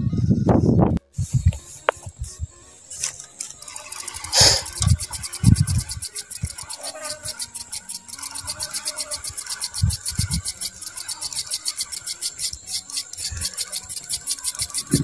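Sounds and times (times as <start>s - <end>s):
fishing reel clicking: 2.9s - 15.0s.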